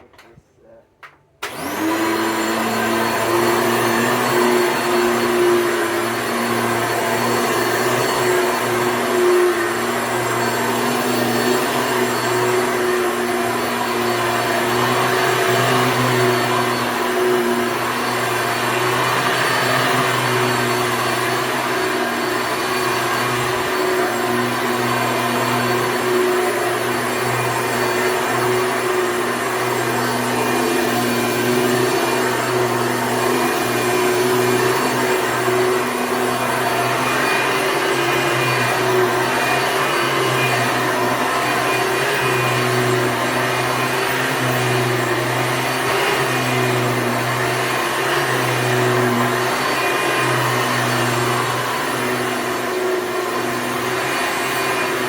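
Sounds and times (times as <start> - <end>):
upright vacuum cleaner running: 1.0 - 55.0.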